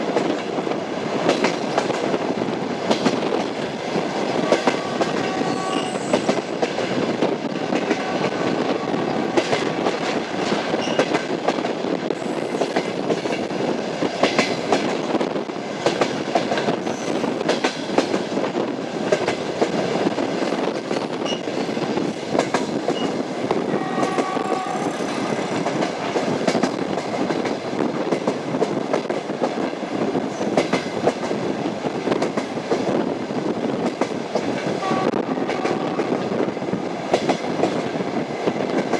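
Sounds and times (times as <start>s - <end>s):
train rumbling on tracks: 0.0s - 38.9s.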